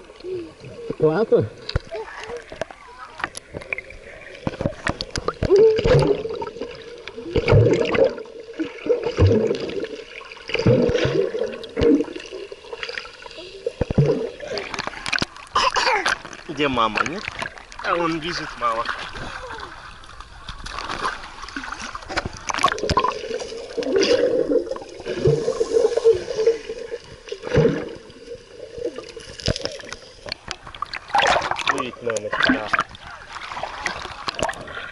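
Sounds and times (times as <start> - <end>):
sea water splashing and gurgling: 0.0 - 34.9.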